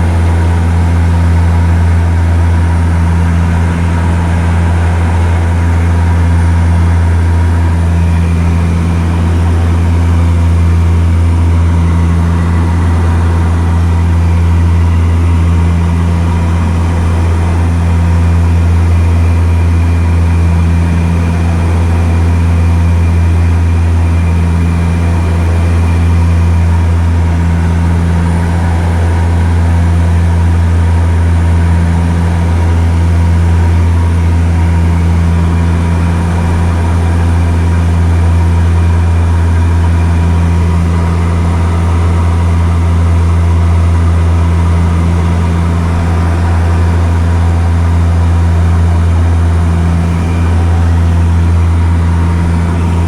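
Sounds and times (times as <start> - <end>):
engine drone with whining tones: 0.0 - 53.0.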